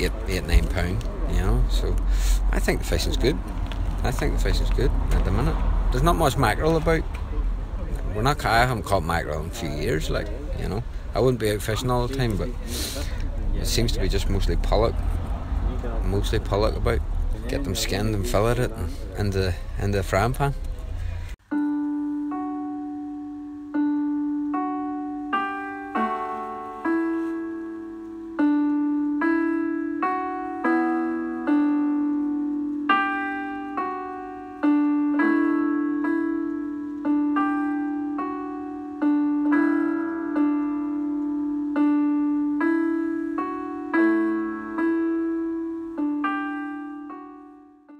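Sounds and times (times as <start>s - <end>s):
slow piano chords: 0.0s - 47.9s.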